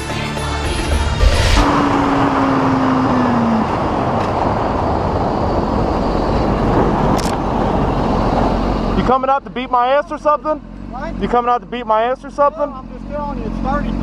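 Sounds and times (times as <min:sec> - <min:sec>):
dirt bike engine: 0:00.0 - 0:14.0
road and wind noise: 0:00.4 - 0:14.0.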